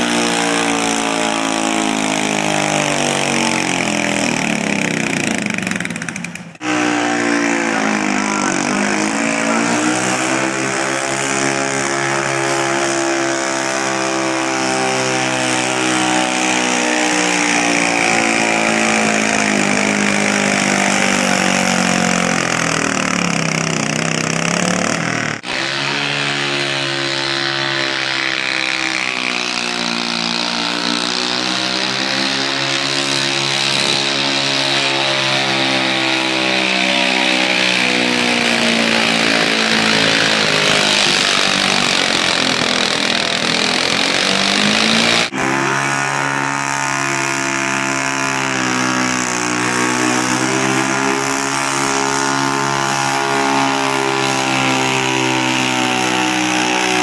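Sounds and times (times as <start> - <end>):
garden tractor engine running hard: 0.0 - 57.0.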